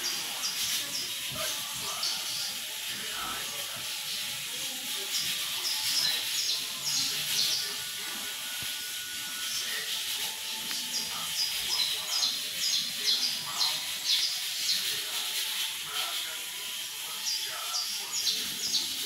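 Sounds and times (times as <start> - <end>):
finch singing high chirps: 0.0 - 4.4, 5.0 - 8.2, 8.9 - 16.2, 17.0 - 19.0
background hiss: 0.0 - 19.0.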